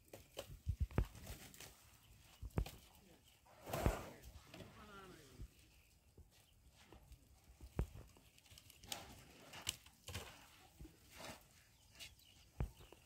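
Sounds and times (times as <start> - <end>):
soft outdoor hush: 0.2 - 13.0.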